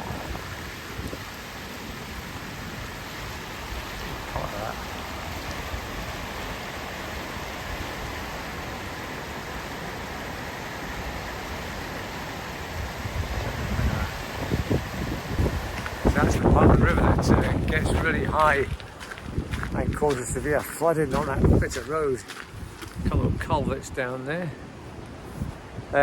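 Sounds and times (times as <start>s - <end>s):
flooded river rushing: 0.0s - 26.0s.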